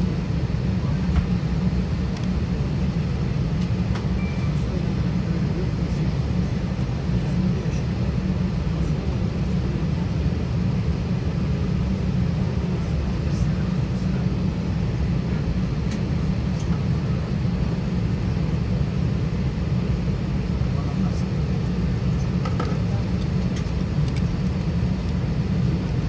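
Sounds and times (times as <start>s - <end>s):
airplane cabin rumble and hiss: 0.0s - 26.0s.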